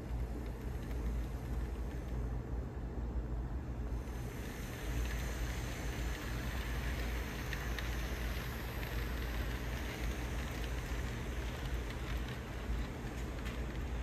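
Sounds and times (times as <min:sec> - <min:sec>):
wheels clicking on rails: 0:00.0 - 0:02.6, 0:03.8 - 0:14.0
model train hum and rumble: 0:00.0 - 0:14.0.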